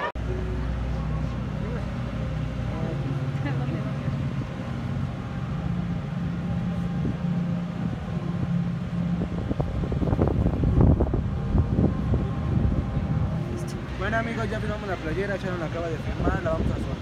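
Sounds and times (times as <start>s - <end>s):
low mechanical hum: 0.2s - 17.0s.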